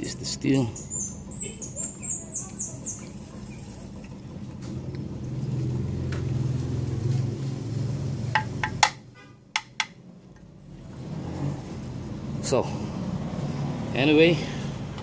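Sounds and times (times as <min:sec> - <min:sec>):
low engine hum: 0:00.0 - 0:09.0, 0:10.0 - 0:15.0.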